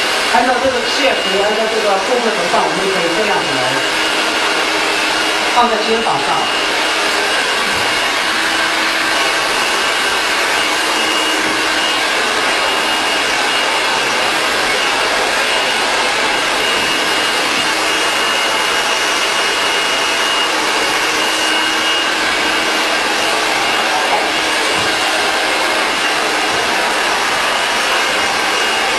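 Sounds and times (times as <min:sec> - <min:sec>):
hair dryer running: 0:00.0 - 0:28.9.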